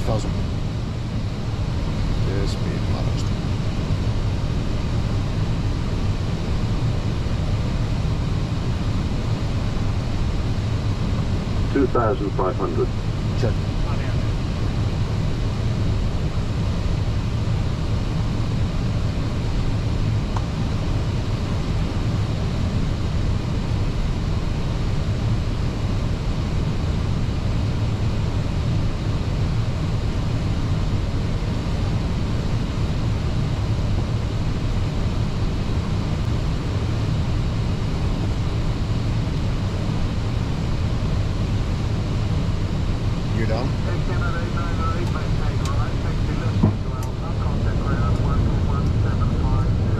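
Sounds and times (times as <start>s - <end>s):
engine drone: 0.0s - 49.9s.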